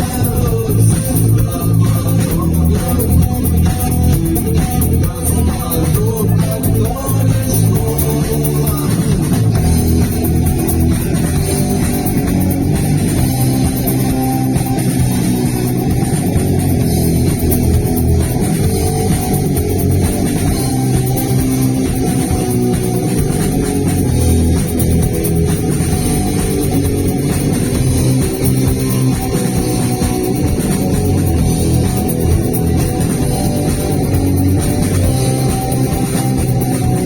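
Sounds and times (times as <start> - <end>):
bass guitar: 0.0 - 37.0
drum kit with cymbals: 0.0 - 37.0
electric guitar: 0.0 - 37.0.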